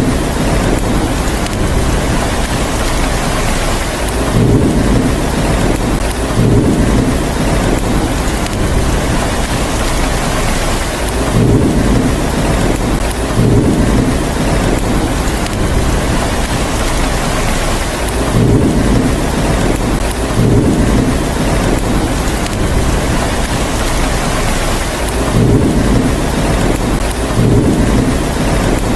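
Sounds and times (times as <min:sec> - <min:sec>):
heavy rain hissing: 0:00.0 - 0:28.9
rolling thunder rumbles: 0:00.0 - 0:28.9.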